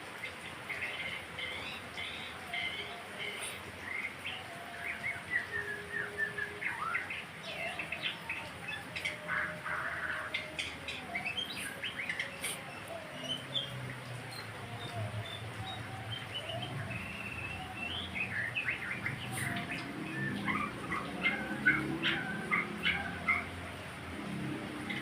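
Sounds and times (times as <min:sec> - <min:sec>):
songbird singing chirps and trills: 0:00.0 - 0:25.0.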